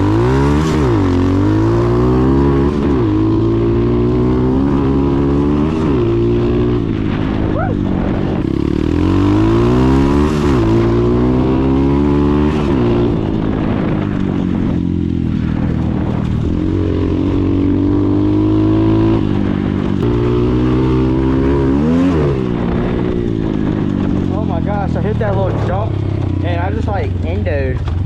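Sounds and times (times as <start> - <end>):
dirt bike engine accelerating: 0.0 - 28.0.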